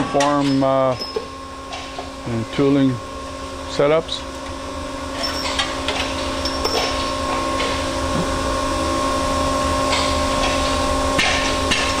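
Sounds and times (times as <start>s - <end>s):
shop machinery humming: 0.0s - 12.0s.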